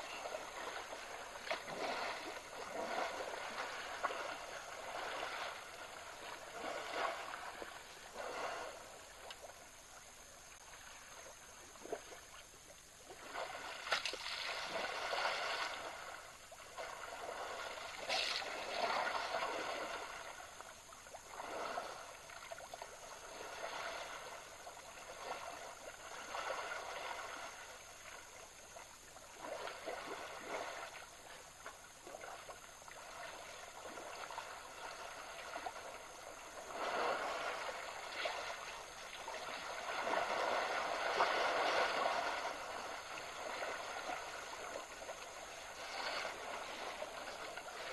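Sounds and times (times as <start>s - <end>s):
elephants splashing in water: 0.0s - 9.6s, 13.0s - 47.9s.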